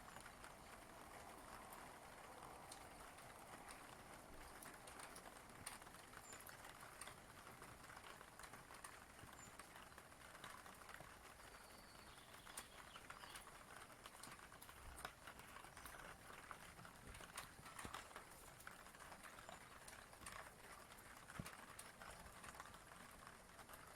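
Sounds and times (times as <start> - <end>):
faint rain hiss: 0.0 - 23.9
raindrops tapping: 0.0 - 23.9.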